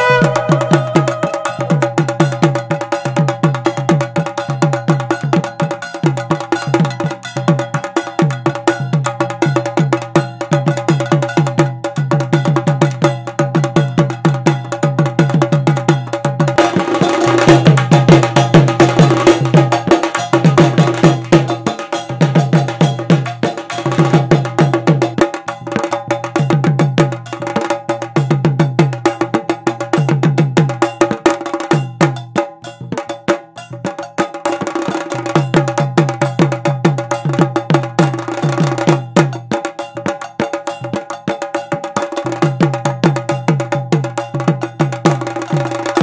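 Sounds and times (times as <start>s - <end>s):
percussion-heavy music: 0.0s - 46.0s.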